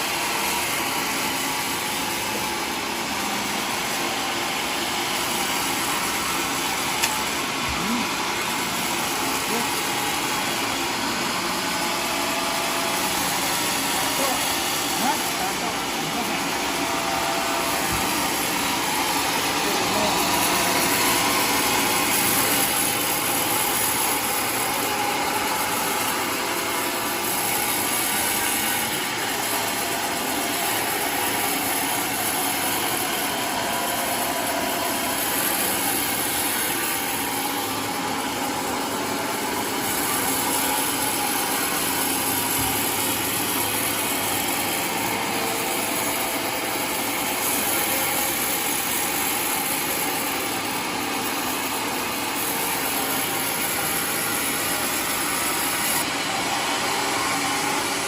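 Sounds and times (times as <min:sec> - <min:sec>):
sawmill sawing wood: 0:00.0 - 0:58.0.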